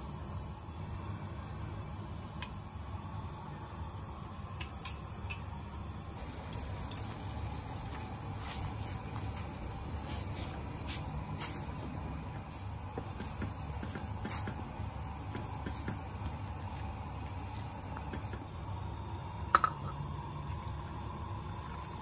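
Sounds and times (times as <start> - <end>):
water boiling in a pot: 0.0 - 22.0.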